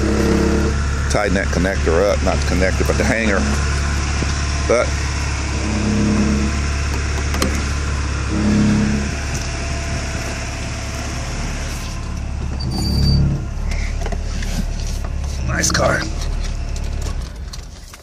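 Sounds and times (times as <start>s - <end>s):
car engine idling: 0.0s - 18.0s
exhaust rumble: 0.0s - 18.0s.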